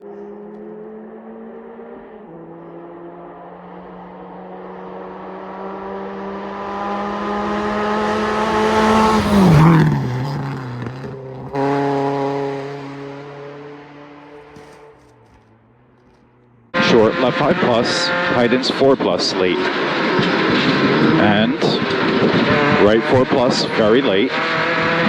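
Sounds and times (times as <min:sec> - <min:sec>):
steady engine note: 0:00.0 - 0:21.8
rally car engine accelerating: 0:00.0 - 0:25.0.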